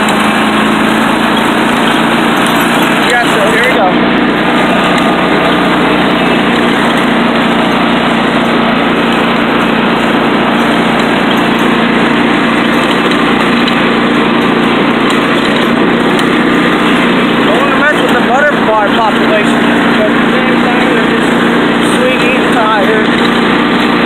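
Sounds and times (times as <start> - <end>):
riding lawn mower engine running: 0.0 - 24.0.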